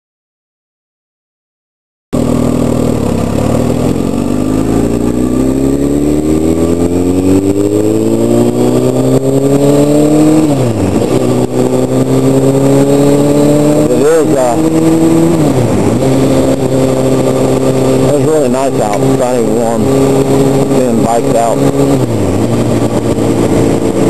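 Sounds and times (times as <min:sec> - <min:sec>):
motorcycle engine accelerating: 0:02.2 - 0:24.0.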